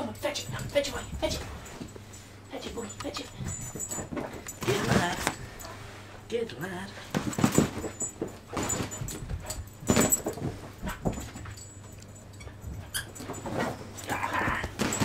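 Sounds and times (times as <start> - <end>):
puppy scuffling: 0.0 - 6.3, 6.9 - 15.0.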